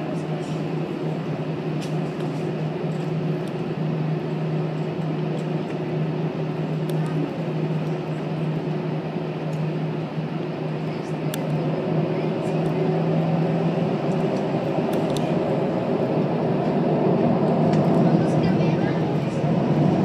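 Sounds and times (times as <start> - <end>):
aircraft engine hum: 0.0 - 20.0.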